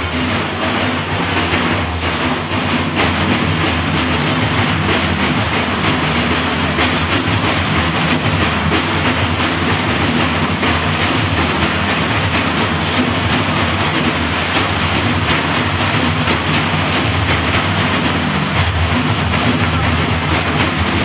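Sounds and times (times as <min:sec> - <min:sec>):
frame drums playing: 0:00.0 - 0:21.0.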